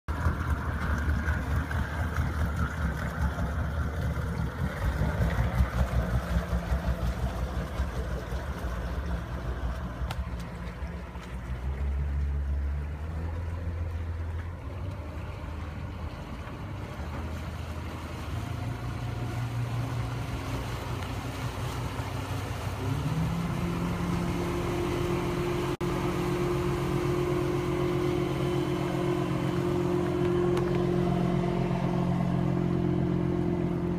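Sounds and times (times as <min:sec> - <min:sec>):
motorboat engine running: 0:00.1 - 0:33.9
steady rushing water: 0:00.1 - 0:33.9.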